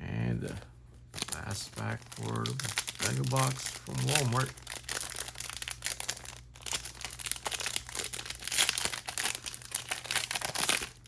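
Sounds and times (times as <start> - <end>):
card pack wrapper crinkling and tearing: 1.1 - 11.0.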